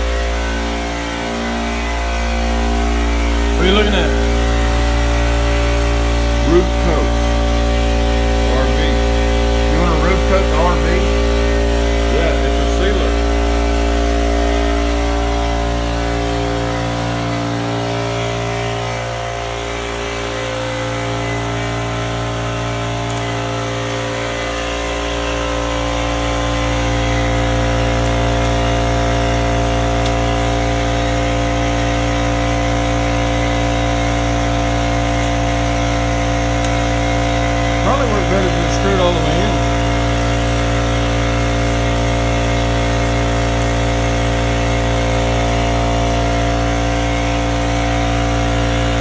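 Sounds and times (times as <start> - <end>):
machine motor humming: 0.0 - 49.0.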